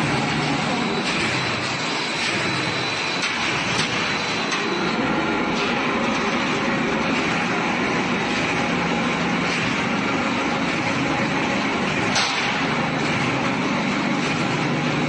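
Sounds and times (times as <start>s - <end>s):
roll forming machine running: 0.0s - 15.0s.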